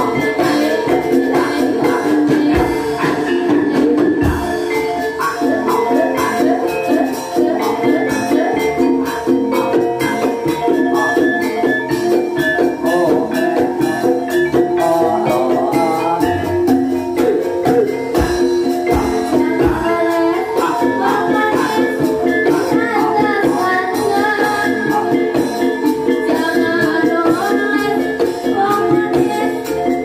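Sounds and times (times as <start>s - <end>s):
steady drumming: 0.0s - 29.5s
gamelan music: 0.0s - 30.0s
person singing: 0.0s - 30.0s.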